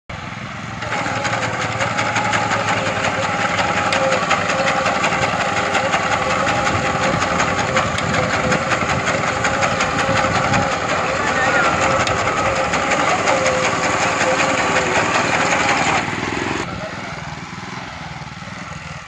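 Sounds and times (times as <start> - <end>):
small engine running: 0.1 - 19.0
fast even rattle: 0.8 - 16.7.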